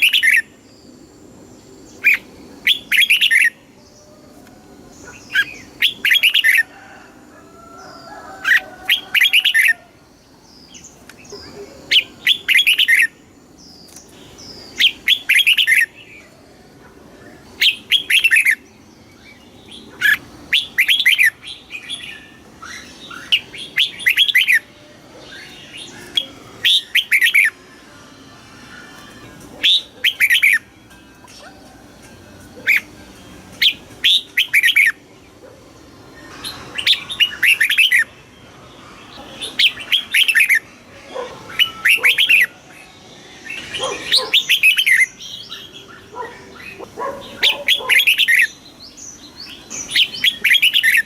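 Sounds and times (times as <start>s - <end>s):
bird singing warbled phrases: 0.0s - 6.6s, 7.8s - 31.7s, 32.6s - 51.0s.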